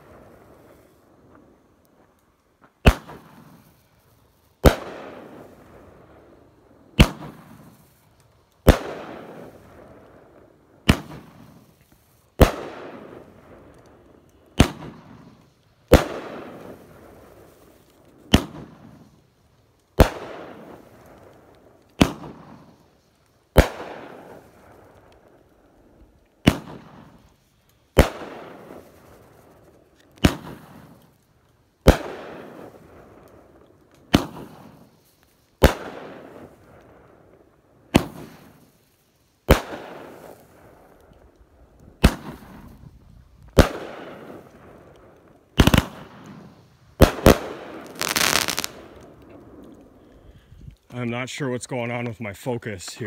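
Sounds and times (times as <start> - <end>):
firework bangs with crackle: 2.6 - 3.9, 4.5 - 6.3, 6.9 - 19.2, 19.8 - 25.5, 26.1 - 50.0.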